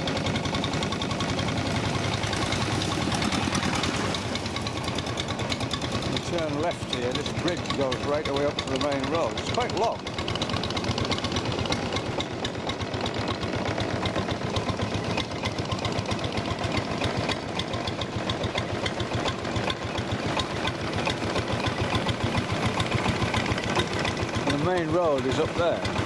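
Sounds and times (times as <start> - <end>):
motorboat engine chugging: 0.0 - 26.0.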